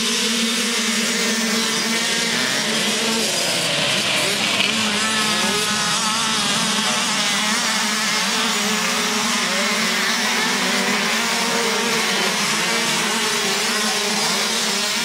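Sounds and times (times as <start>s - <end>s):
motocross bike engines buzzing: 0.0s - 15.0s.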